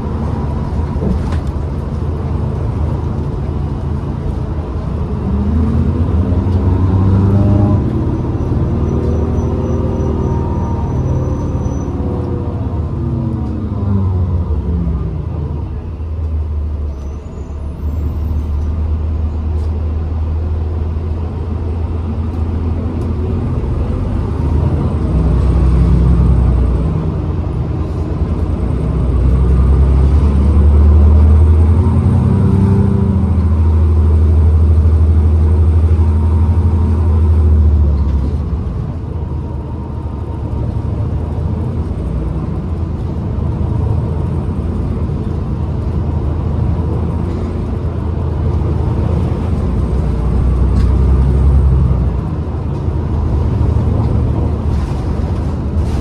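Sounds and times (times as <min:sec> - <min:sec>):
bus drivetrain drone: 0:00.0 - 0:56.0.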